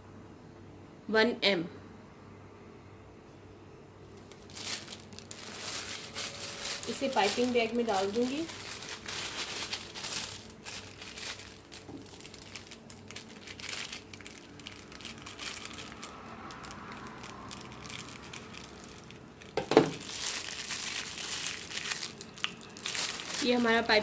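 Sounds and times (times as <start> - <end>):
plastic bag crinkling: 4.2 - 24.0.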